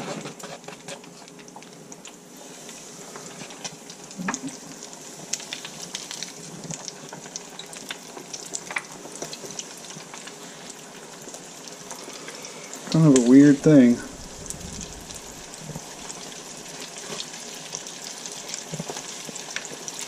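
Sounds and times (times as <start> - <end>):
hot oil sizzling in deep fryer: 0.0 - 20.0.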